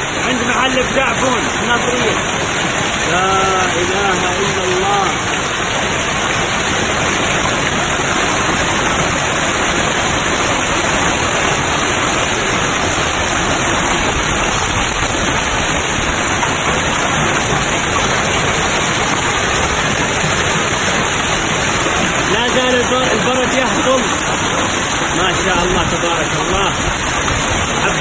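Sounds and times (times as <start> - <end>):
heavy hail pelting down: 0.0 - 28.0.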